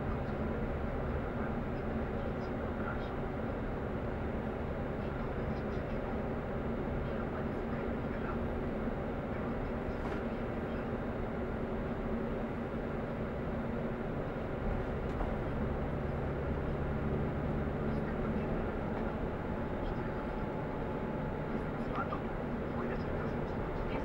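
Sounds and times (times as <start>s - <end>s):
engine hum inside vehicle: 0.0s - 24.0s.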